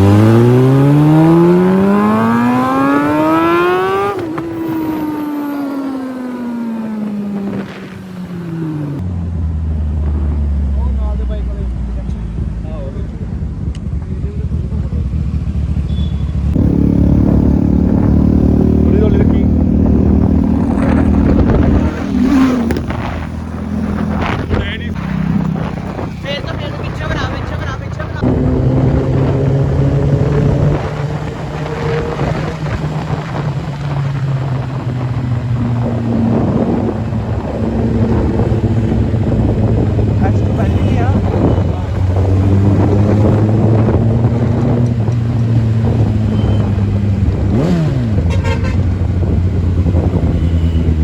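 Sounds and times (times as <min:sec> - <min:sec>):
motorcycle engine running: 0:00.0 - 0:51.0
wind and road noise: 0:00.0 - 0:51.0.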